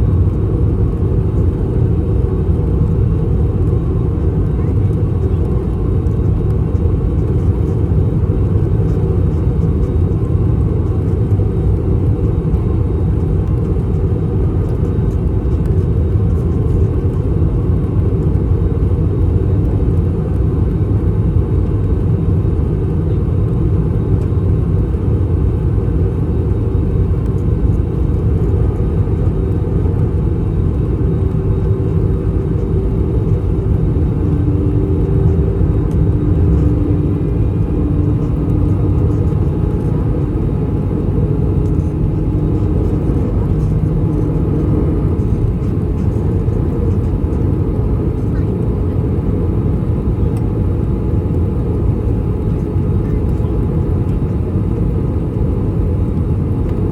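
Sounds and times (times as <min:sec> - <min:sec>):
airplane cabin rumble: 0:00.0 - 0:56.9
faint hum: 0:00.0 - 0:56.9
jet engines: 0:00.0 - 0:56.9.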